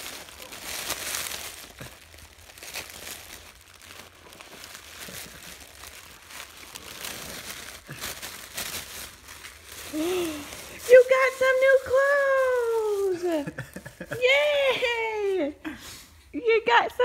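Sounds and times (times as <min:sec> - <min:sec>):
wrapping paper crinkling: 0:00.0 - 0:16.2.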